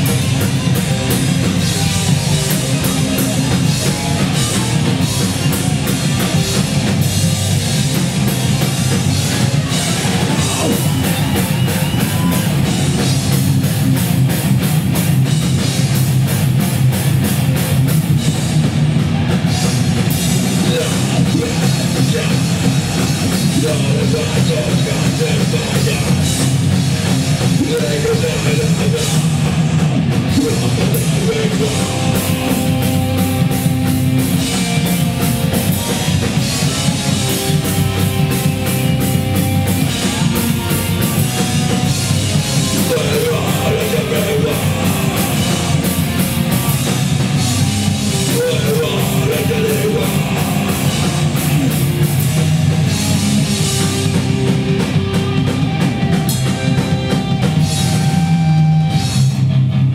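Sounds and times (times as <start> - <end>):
punk band playing live: 0.0 - 59.9.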